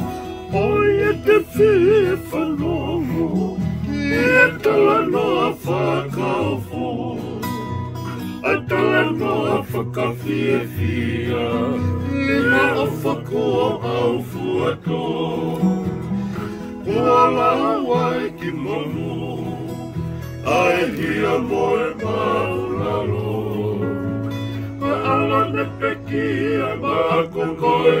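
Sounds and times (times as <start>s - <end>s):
strummed acoustic guitar: 0.0s - 28.0s
ukulele: 0.0s - 28.0s
man singing with wavering voice: 0.5s - 16.0s, 16.7s - 24.0s, 24.7s - 28.0s.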